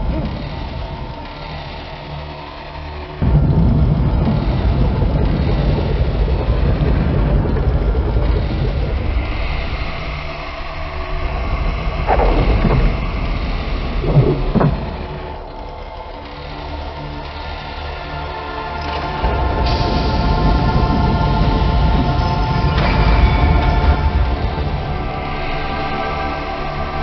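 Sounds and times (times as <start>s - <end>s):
low rumbling noise texture: 0.0s - 27.0s.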